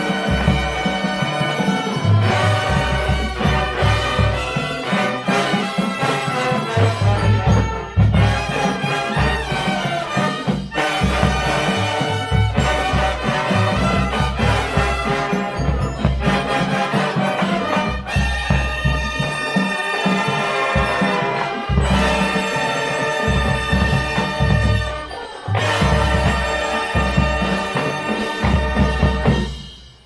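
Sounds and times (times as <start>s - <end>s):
brass horns in chords: 0.0s - 29.6s
marching bass drums: 0.0s - 29.7s.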